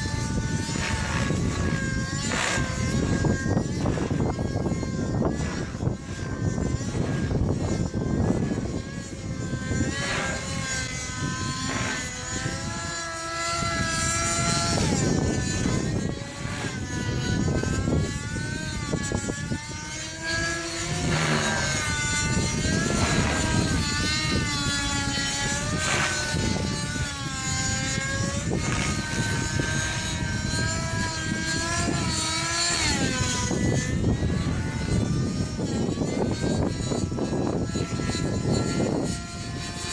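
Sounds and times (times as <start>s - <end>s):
model helicopter engine whine: 0.0s - 39.9s
rotor blades whooshing: 0.0s - 39.9s.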